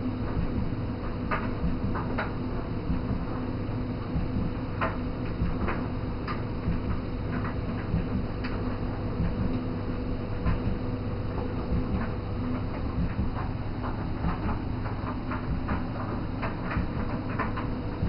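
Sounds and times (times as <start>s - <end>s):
laundry machine humming: 0.0s - 18.0s.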